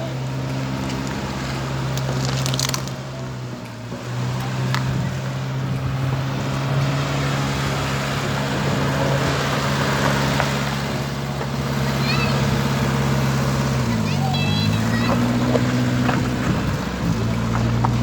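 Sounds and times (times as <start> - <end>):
car engine running steadily: 0.0 - 18.0.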